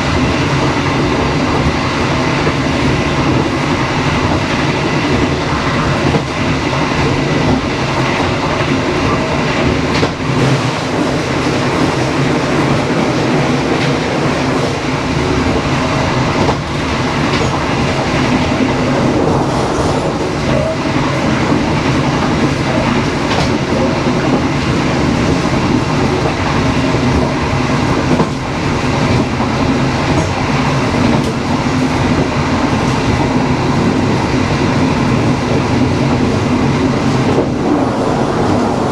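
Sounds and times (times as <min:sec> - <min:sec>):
rail joint clicks: 0:00.0 - 0:38.9
train wheels rumbling on rails: 0:00.0 - 0:38.9.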